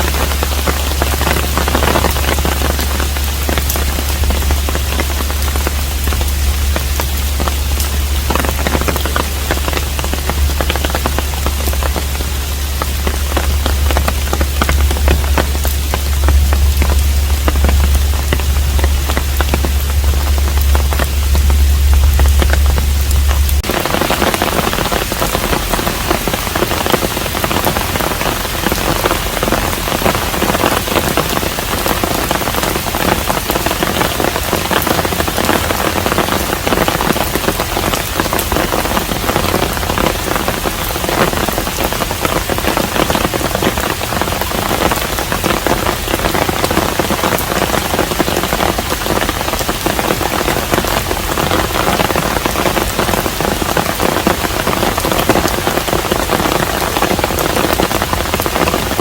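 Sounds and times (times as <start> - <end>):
low steady hum: 0.0 - 59.0
steady rain falling: 0.0 - 59.0.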